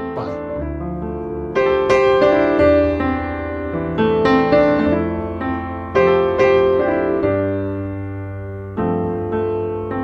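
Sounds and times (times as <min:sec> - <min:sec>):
slow piano chords: 0:00.0 - 0:10.0.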